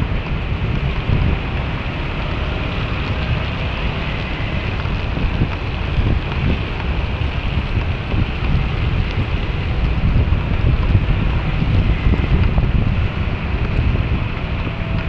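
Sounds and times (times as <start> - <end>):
heavy rain on wet road: 0.0 - 15.0
wind buffeting microphone: 0.0 - 15.0.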